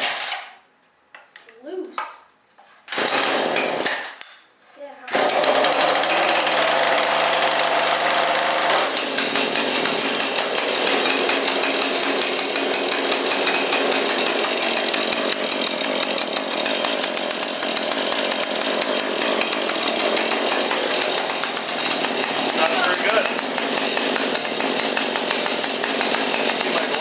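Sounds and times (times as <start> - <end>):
chainsaw running at high speed: 3.0 - 3.8, 5.1 - 27.0.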